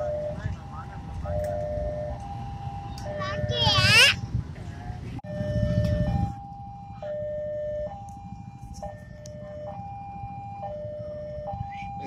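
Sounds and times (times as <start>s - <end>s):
level-crossing two-tone alarm: 0.0s - 12.0s.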